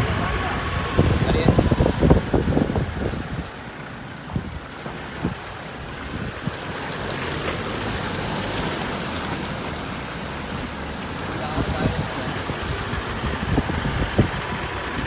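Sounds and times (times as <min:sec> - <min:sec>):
diesel engine hum: 0:00.0 - 0:15.0
tyres splashing through water: 0:00.0 - 0:15.0.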